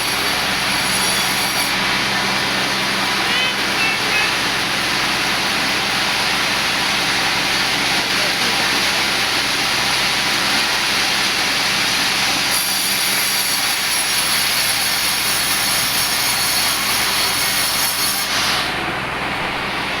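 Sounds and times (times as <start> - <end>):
power saw cutting wood: 0.0 - 20.0.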